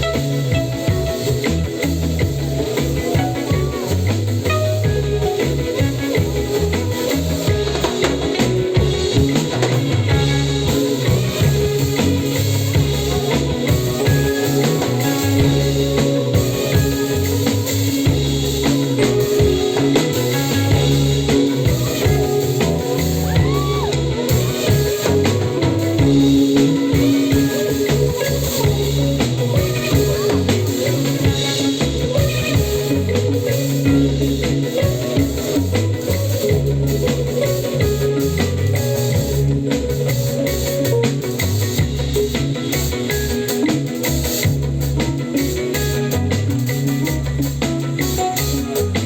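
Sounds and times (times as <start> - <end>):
drum kit beat: 0.0 - 49.0
live band playing trance music: 0.0 - 49.0.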